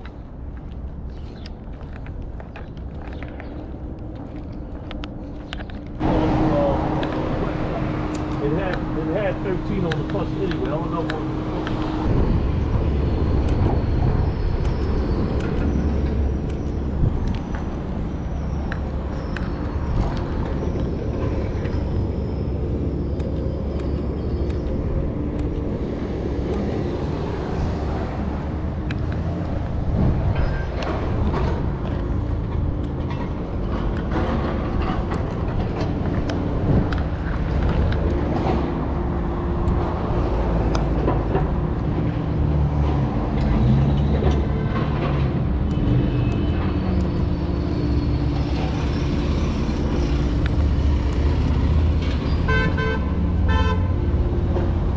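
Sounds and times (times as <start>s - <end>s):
vehicle engines rumbling: 0.0s - 54.9s.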